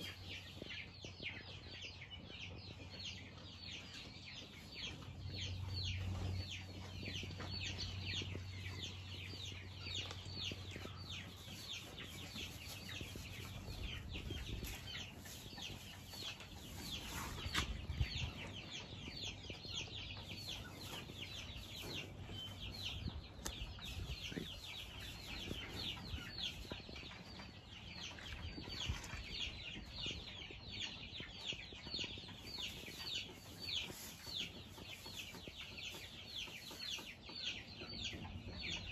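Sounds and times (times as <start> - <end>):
chickens peeping: 0.0 - 38.9.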